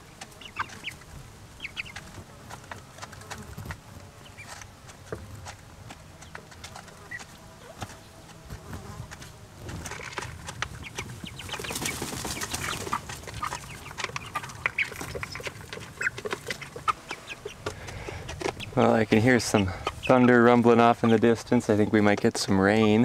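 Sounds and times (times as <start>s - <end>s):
insects buzzing: 0.0s - 21.8s
chicks peeping and cheeping: 0.0s - 23.0s.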